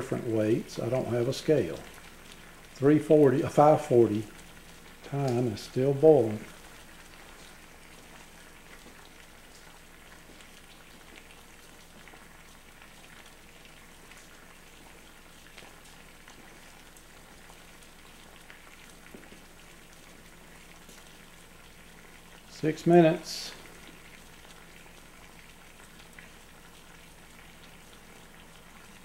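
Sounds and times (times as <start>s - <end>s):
water boiling in a pot: 0.0s - 29.0s.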